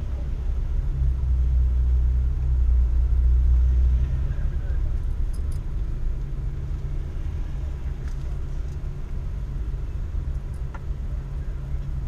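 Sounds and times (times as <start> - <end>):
car engine idling inside cabin: 0.0 - 12.0.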